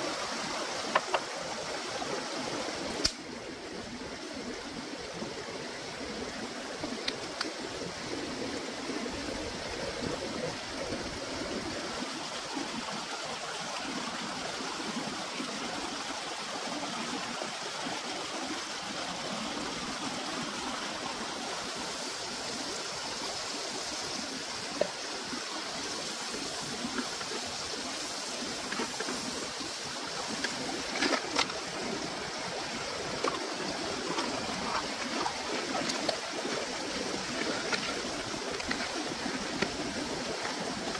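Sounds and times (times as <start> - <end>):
stream rushing over rock: 0.0 - 40.9.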